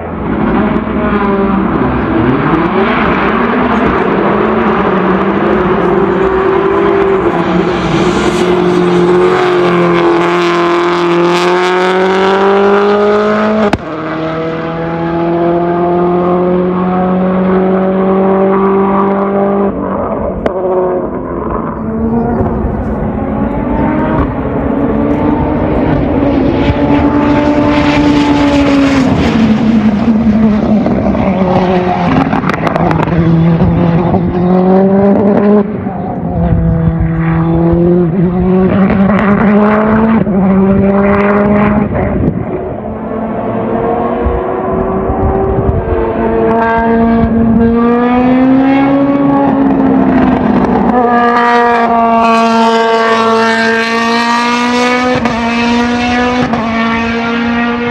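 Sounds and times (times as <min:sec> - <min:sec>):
racing car engines revving: 0:00.0 - 0:57.9.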